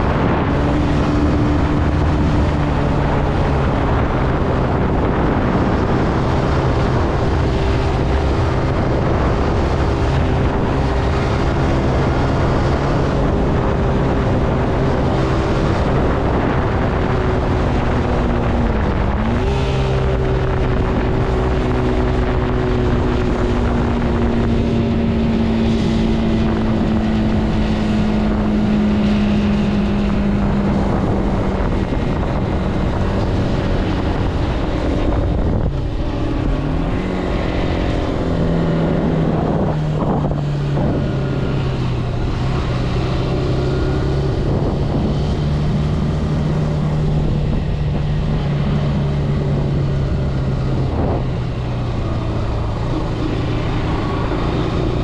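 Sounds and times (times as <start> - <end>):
motorcycle engine running: 0.0 - 55.0
wind on microphone: 0.0 - 55.0.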